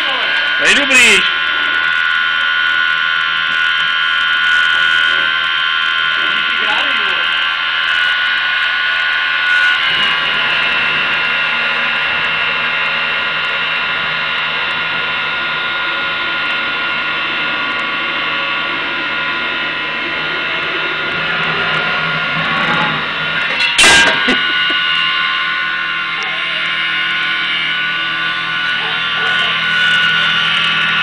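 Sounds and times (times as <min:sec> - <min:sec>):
stove burning rushing noise: 0:00.0 - 0:31.0.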